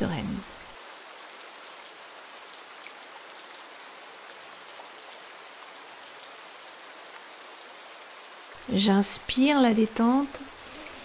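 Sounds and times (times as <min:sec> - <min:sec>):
rain on leaves: 0:00.0 - 0:11.0.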